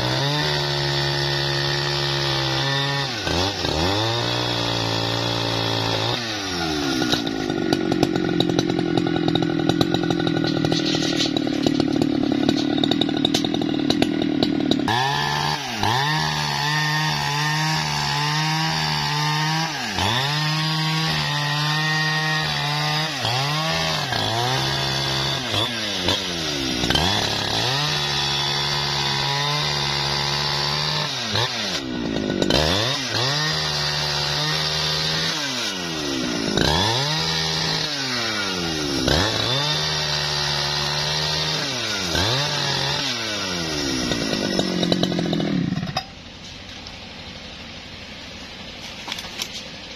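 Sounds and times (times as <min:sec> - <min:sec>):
chainsaw cutting through log: 0:00.0 - 0:49.9.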